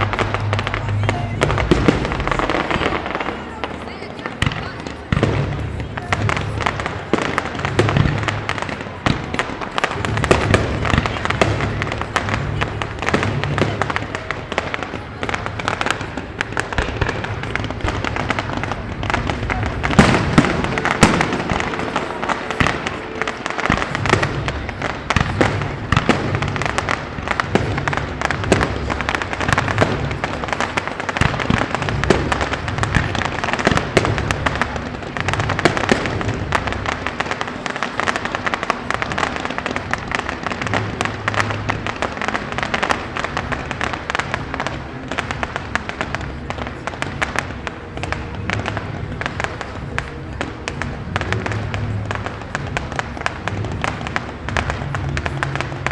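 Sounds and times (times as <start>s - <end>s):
fireworks bangs and crackles: 0.0s - 55.9s
music playing: 0.0s - 55.9s.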